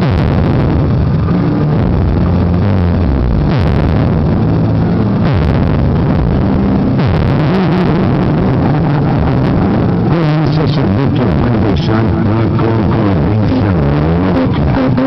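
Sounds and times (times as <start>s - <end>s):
distorted bass-heavy music: 0.0s - 15.0s.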